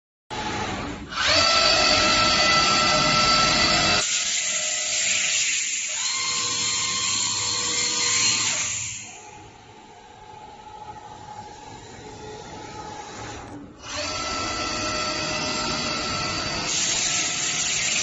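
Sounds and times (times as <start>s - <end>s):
router spindle whining and cutting: 0.4s - 18.0s.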